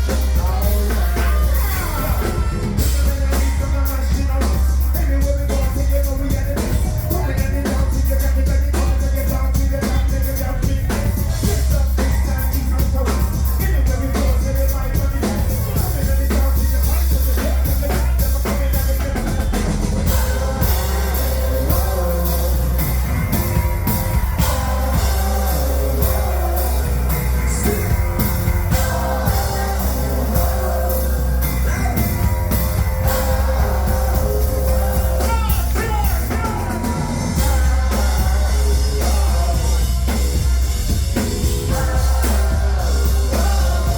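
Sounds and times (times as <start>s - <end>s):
drum kit: 0.0s - 43.9s
guitar: 0.0s - 43.9s
heavy bass: 0.0s - 43.9s
person singing: 0.0s - 43.9s.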